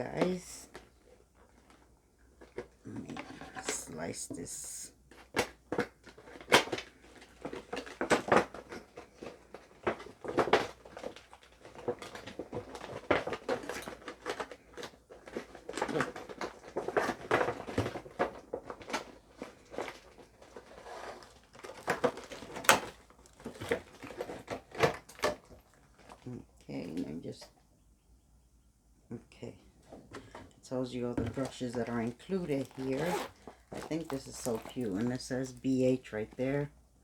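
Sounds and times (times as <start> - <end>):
plastic wrap and cardboard rustling: 0.0 - 27.4, 29.8 - 36.8.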